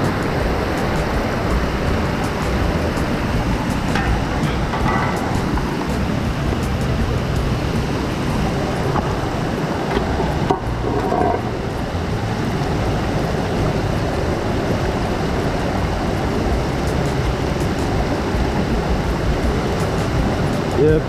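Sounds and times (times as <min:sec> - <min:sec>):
waterfall roar: 0:00.0 - 0:21.0.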